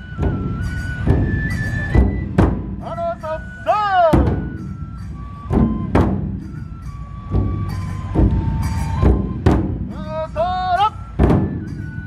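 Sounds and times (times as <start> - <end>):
bamboo flute long notes: 0.0 - 12.0
heavy drum strokes: 0.0 - 12.0.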